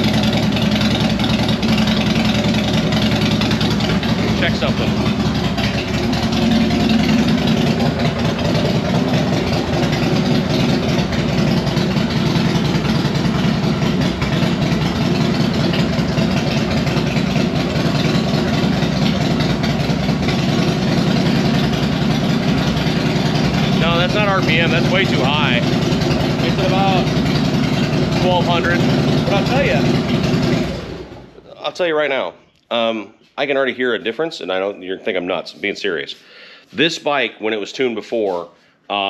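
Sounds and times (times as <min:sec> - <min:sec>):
motorcycle engine idling: 0:00.0 - 0:31.5.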